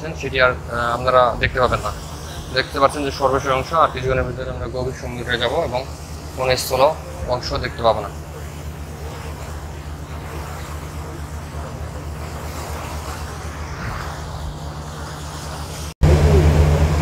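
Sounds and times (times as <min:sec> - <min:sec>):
wind and sea hiss: 0:00.0 - 0:16.0
ship engines droning: 0:00.0 - 0:17.0.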